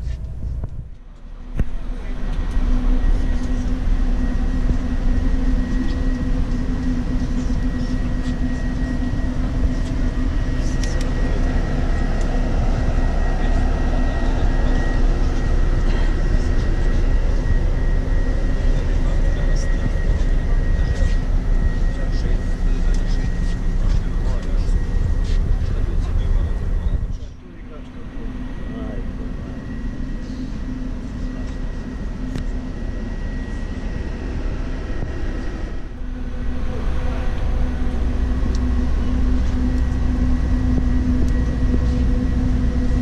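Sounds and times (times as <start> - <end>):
faint high whine: 0.0 - 43.0
vehicle engine droning: 0.0 - 43.0.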